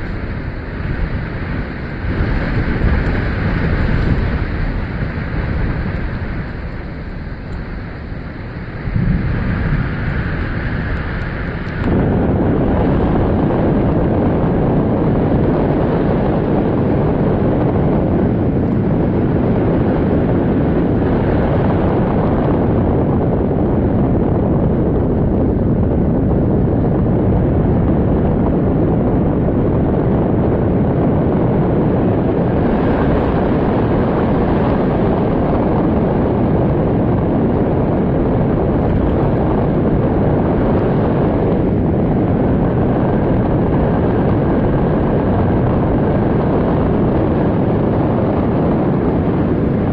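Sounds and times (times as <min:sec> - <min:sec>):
storm wind roaring: 0:00.0 - 0:49.9
wind rumbling on microphone: 0:00.0 - 0:49.9.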